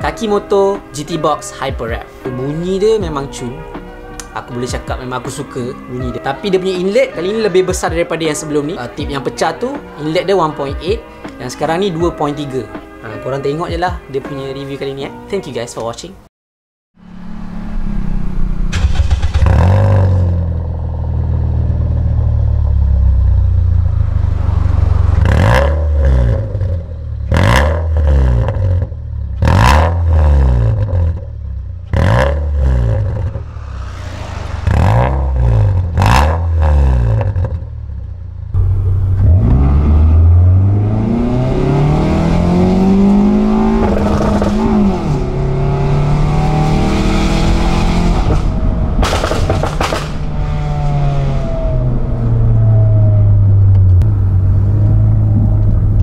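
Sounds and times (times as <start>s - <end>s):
car engine idling and revving: 0.8s - 6.7s, 17.0s - 56.0s.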